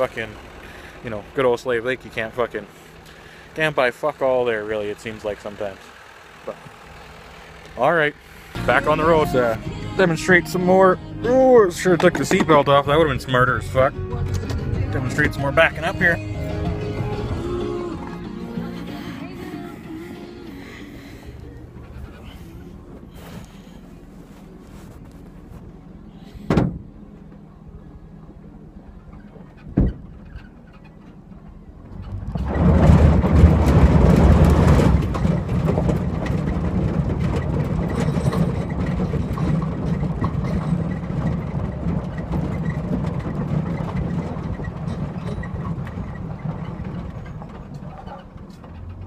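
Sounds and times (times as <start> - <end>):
tyres on gravel: 0.0 - 27.4, 30.5 - 49.0
truck engine: 0.0 - 49.0.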